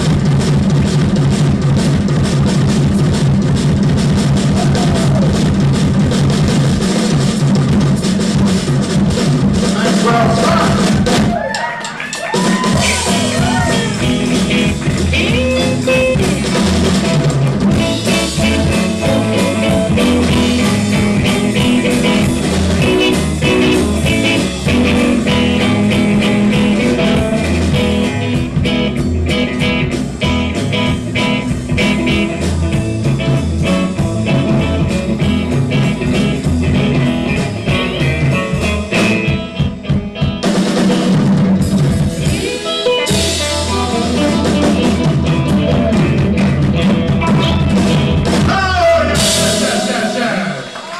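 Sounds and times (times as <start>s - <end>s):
blues-rock band playing: 0.0s - 50.9s
electric guitar leads: 0.0s - 50.9s.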